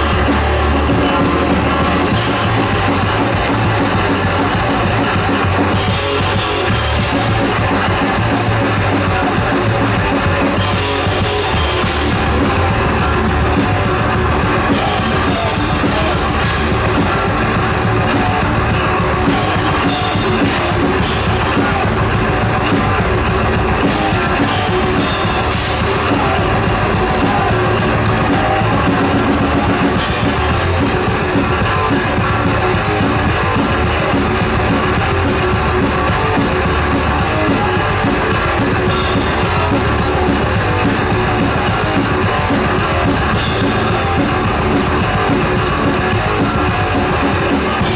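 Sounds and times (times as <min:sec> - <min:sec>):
bass guitar: 0:00.0 - 0:47.9
distorted electric guitars: 0:00.0 - 0:47.9
drum kit: 0:00.0 - 0:47.9.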